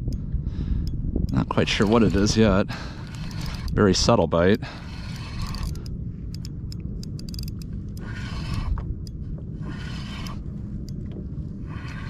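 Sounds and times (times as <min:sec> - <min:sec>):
steady low rumble: 0:00.0 - 0:12.0
fishing reel gear whirring: 0:01.3 - 0:12.0.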